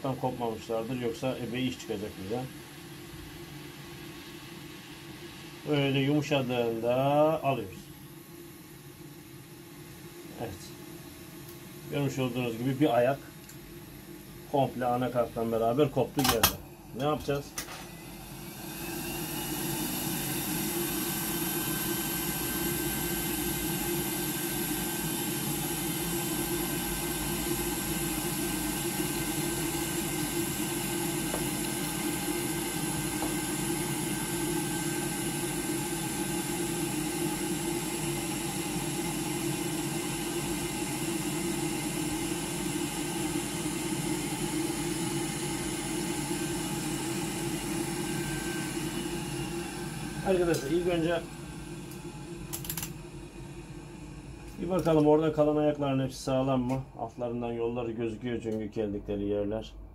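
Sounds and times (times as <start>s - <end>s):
hot air blower whooshing hum: 0.0s - 57.8s.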